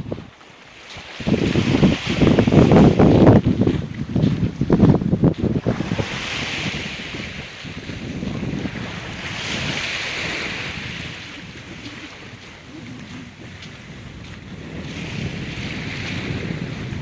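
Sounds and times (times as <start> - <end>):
sea waves on rocky beach: 0.0 - 17.0
wind buffeting microphone: 0.0 - 17.0.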